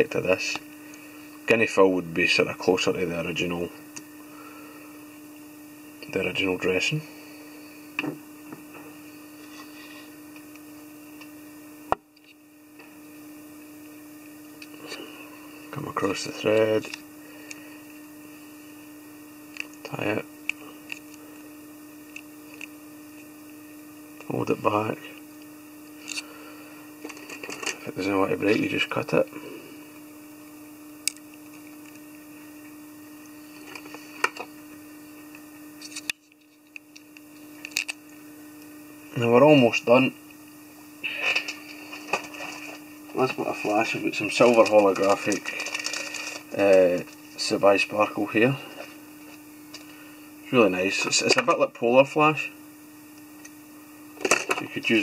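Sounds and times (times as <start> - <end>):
electrical hum and hiss: 0.0 - 55.0.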